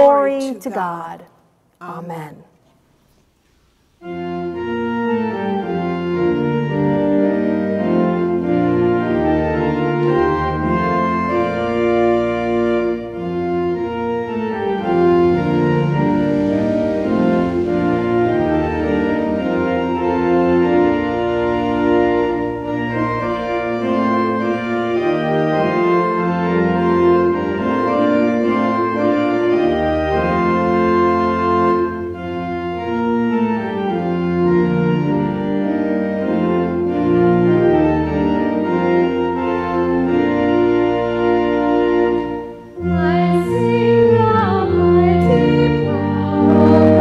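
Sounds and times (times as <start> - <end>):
church organ chords: 4.0 - 47.0.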